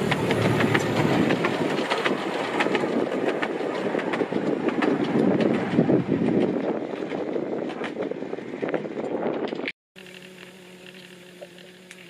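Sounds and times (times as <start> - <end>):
railway carriages rolling rumble: 0.0 - 9.7
wheels clicking over rail joints: 0.0 - 9.7.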